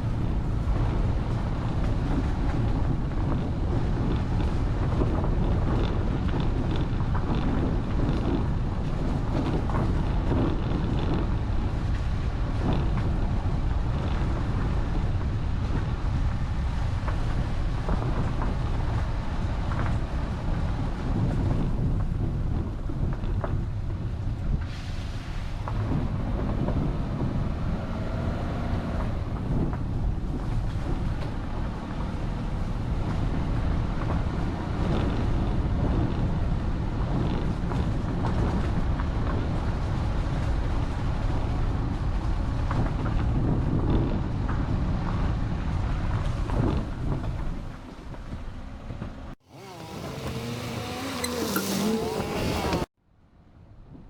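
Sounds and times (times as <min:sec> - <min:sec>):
wind buffeting microphone: 0:00.0 - 0:52.9
vehicle driving rumble: 0:00.0 - 0:53.0.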